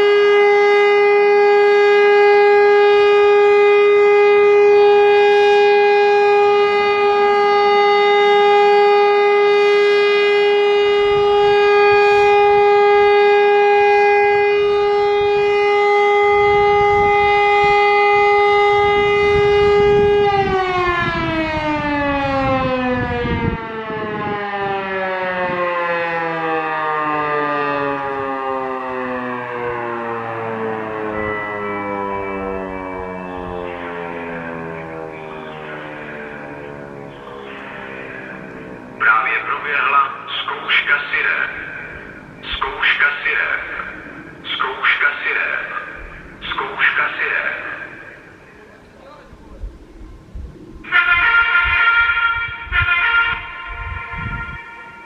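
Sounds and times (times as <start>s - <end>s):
electric motor siren: 0.0s - 40.3s, 41.0s - 44.5s, 49.6s - 55.0s.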